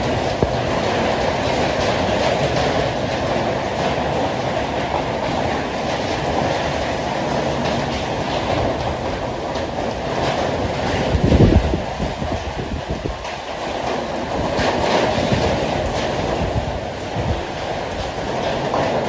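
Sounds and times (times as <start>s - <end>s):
heavy rain on a metal roof: 0.0s - 19.0s.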